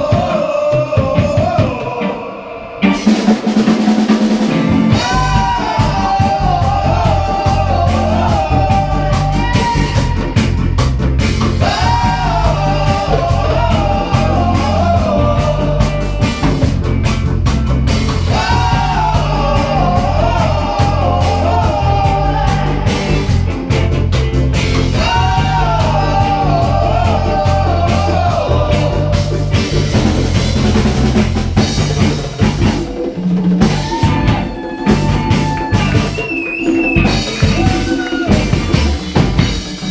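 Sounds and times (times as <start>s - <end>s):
drum kit with rimshots: 0.0s - 39.9s
guitar: 0.0s - 39.9s
live band playing reggae-funk: 0.0s - 39.9s
heavy bass line: 2.8s - 36.3s, 36.9s - 39.9s.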